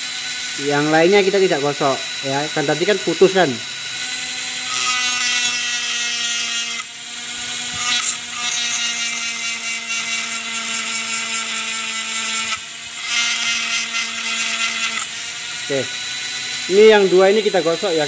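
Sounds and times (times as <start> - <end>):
rotary tool grinding plastic: 0.0 - 18.0
rotary tool whining: 0.0 - 18.0.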